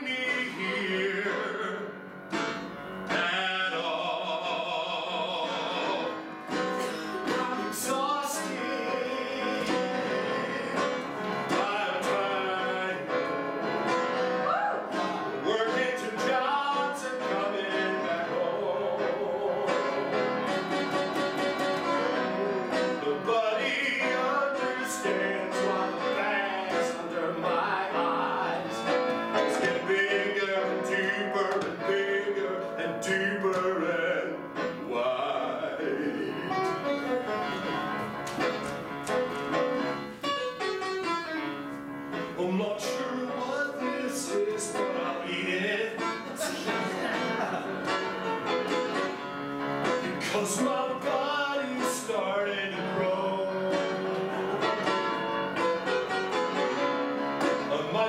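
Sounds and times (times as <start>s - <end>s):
man singing: 0.0s - 14.0s, 14.9s - 20.8s, 21.7s - 37.6s, 42.2s - 49.2s, 49.8s - 58.0s
electric keyboard: 0.0s - 58.0s.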